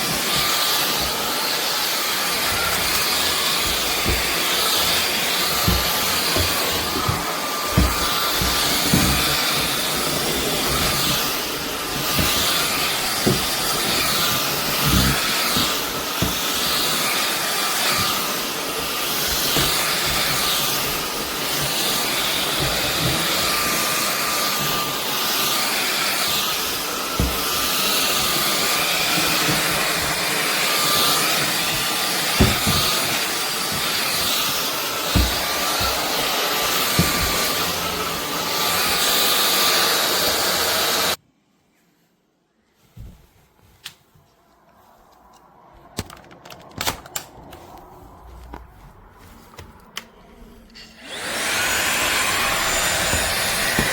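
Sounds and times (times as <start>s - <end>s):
stick vacuum hissing and whining: 0.0s - 41.2s, 49.2s - 53.9s.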